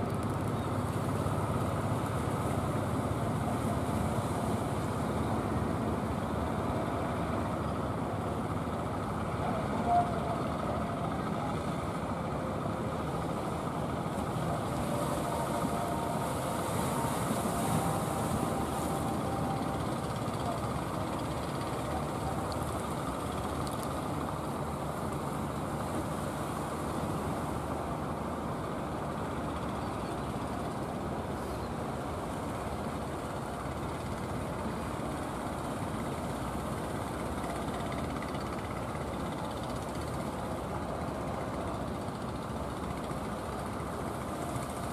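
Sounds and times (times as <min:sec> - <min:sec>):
boat inboard engine running: 0:00.0 - 0:44.9.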